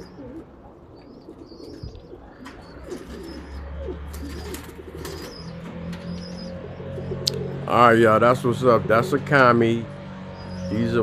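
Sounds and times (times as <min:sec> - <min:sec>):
pigeons cooing: 0:00.0 - 0:11.0
small birds chirping: 0:00.0 - 0:11.0.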